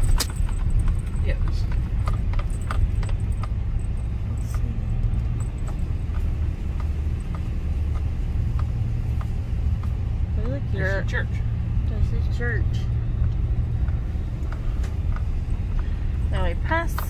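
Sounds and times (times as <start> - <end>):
car road noise rumble: 0.0 - 17.0.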